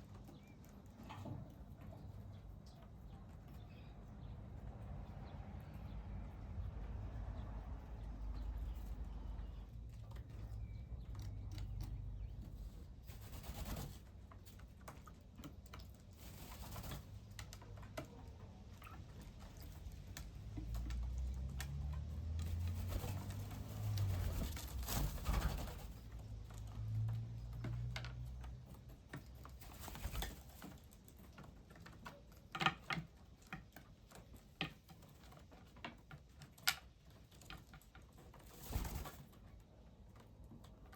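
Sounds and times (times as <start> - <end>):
birds pecking clicks: 8.0 - 40.9.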